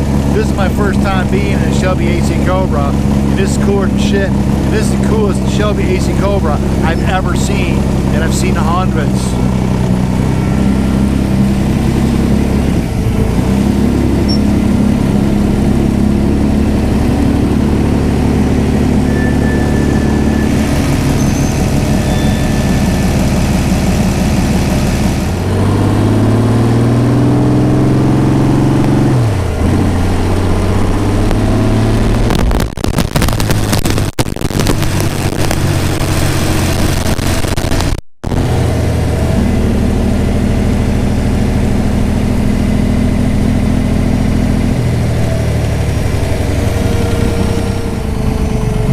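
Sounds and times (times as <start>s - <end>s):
racing engine revving: 0.0s - 48.9s.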